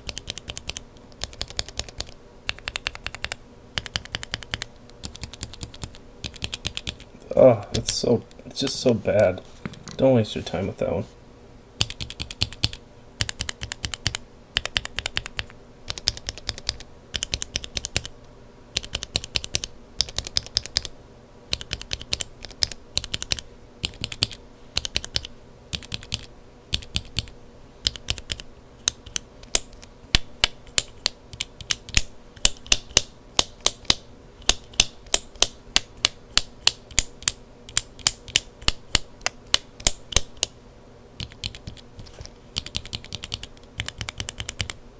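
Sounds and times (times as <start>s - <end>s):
mechanical keyboard typing: 0.0s - 7.1s, 11.8s - 18.1s, 18.7s - 20.9s, 21.5s - 40.5s, 41.2s - 41.9s, 42.6s - 44.8s.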